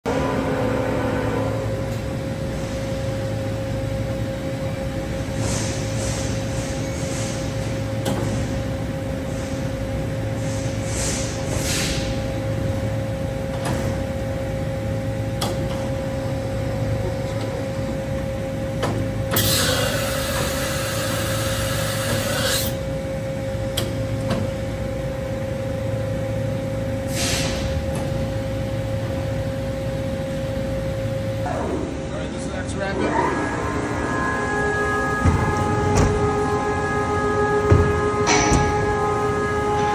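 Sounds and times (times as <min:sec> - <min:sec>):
machine hum with high whine: 0:00.0 - 0:39.9.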